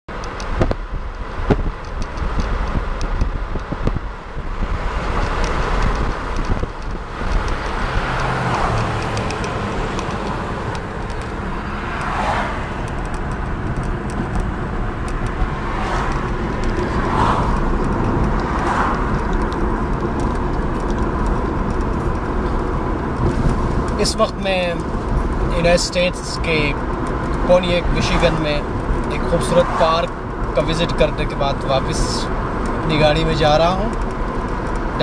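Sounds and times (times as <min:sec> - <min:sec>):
car road and engine rumble: 0:00.1 - 0:35.0.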